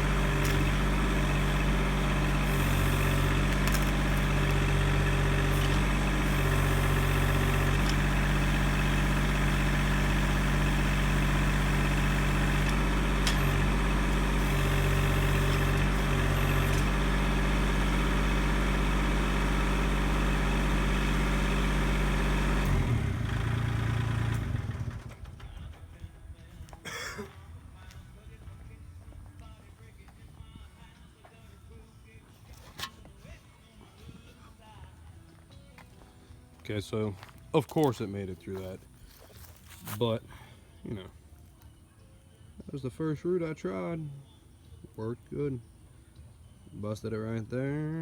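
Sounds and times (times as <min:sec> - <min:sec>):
tractor diesel engine running: 0:00.0 - 0:41.3.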